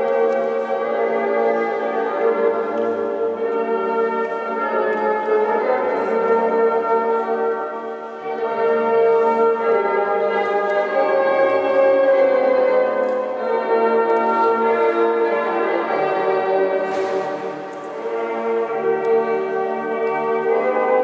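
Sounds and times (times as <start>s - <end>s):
ceremonial music over loudspeakers: 0.0s - 21.0s.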